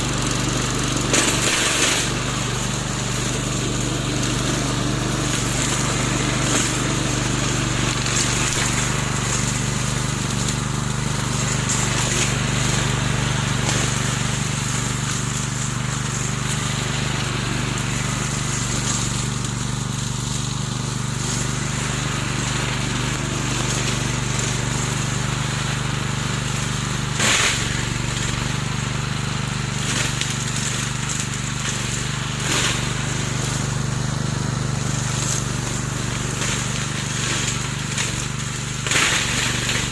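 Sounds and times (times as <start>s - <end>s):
lawn mower engine humming: 0.0s - 39.9s.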